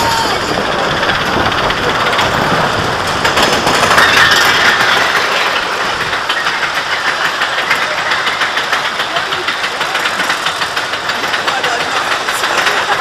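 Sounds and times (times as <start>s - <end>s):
lift chain clacking: 0.0s - 13.0s
roller coaster wheel rumble: 0.0s - 13.0s.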